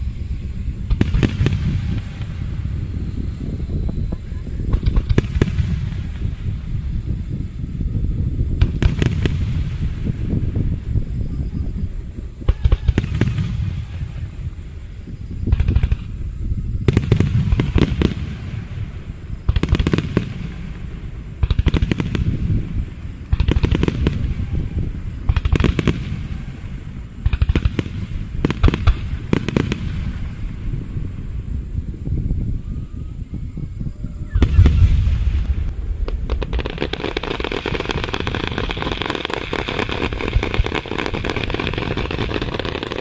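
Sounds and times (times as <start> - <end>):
low rumbling echo: 0.0 - 39.0
fireworks bangs and crackles: 0.0 - 43.0.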